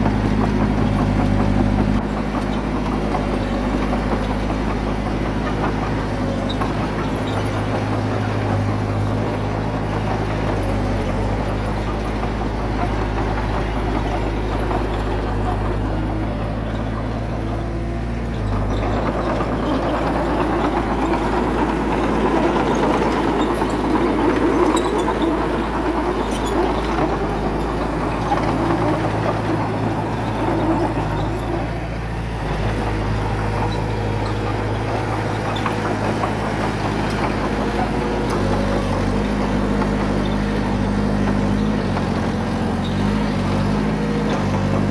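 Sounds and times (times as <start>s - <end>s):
heavy machine diesel engine: 0.0s - 44.9s.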